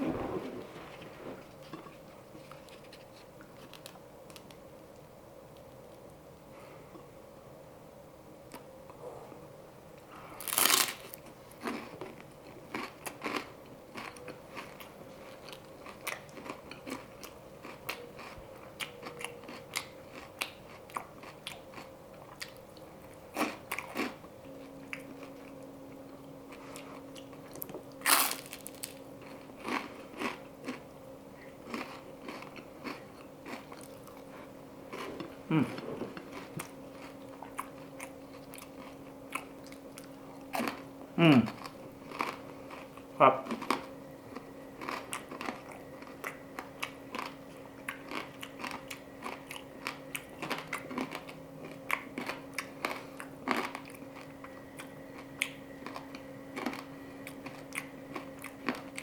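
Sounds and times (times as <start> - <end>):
faint steady hum: 0.0 - 59.0
crunchy biting and chewing: 10.2 - 25.7, 26.5 - 59.0.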